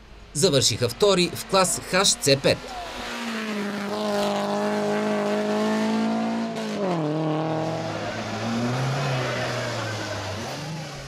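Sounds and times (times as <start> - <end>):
car engine revving high: 1.2 - 11.0.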